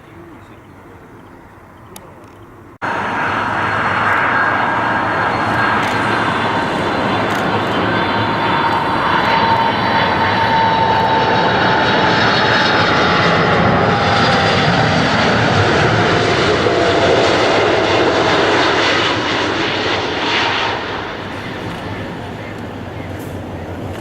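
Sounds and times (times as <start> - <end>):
jet airliner passing: 0.0 - 24.0.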